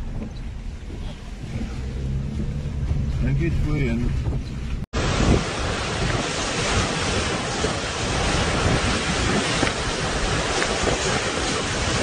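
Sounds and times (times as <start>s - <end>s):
storm wind and rain: 0.0s - 12.0s
wind buffeting microphone: 0.0s - 12.0s.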